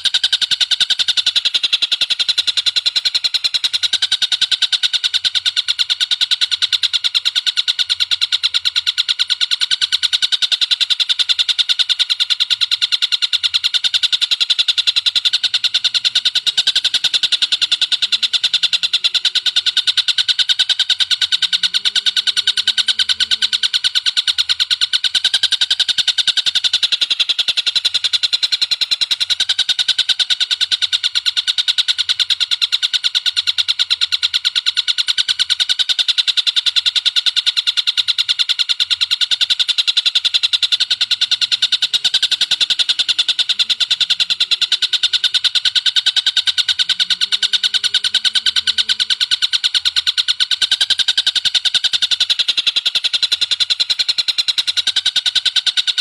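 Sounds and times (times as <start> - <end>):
rapid high bird call: 0.0 - 56.0.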